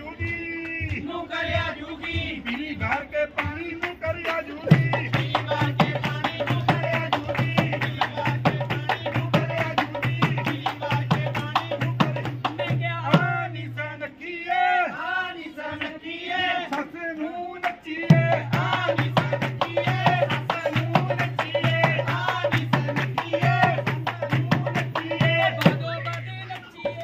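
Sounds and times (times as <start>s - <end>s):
quick steady drum beat: 0.3s - 13.5s, 18.0s - 27.0s.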